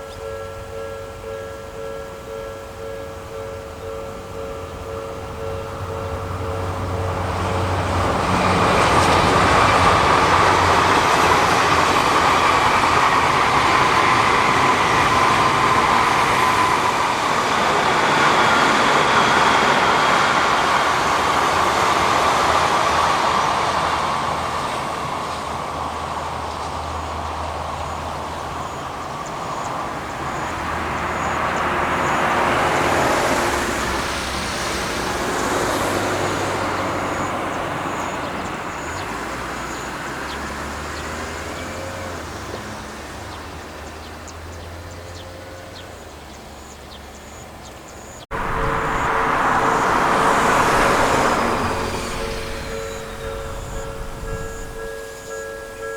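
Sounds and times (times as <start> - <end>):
electric train passing: 0.0 - 55.9
wheel and rail noise: 0.0 - 55.9.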